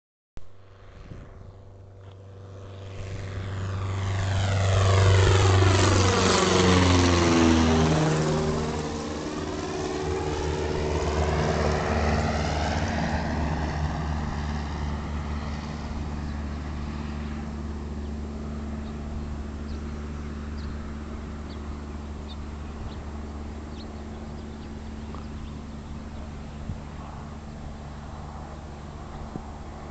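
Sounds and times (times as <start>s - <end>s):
propeller plane flying past: 0.4s - 29.9s.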